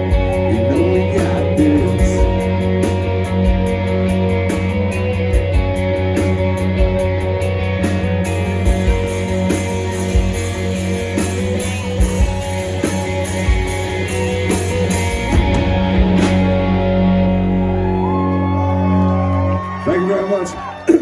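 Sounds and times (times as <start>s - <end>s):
electric guitar chord ringing: 0.0s - 20.9s
drums: 0.0s - 21.0s.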